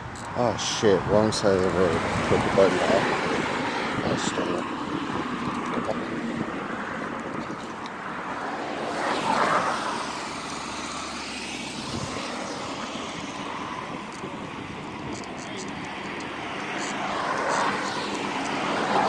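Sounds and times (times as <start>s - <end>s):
road traffic noise: 0.0s - 19.0s
vehicle passing close by: 1.6s - 15.1s, 15.8s - 19.0s.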